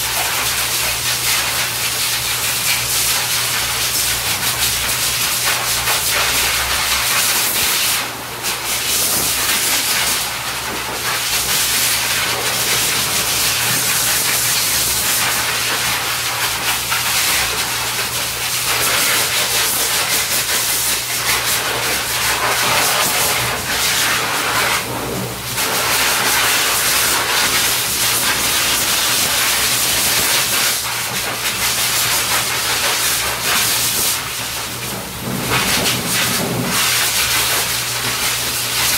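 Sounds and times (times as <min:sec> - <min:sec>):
dryer blowing air: 0:00.0 - 0:38.9.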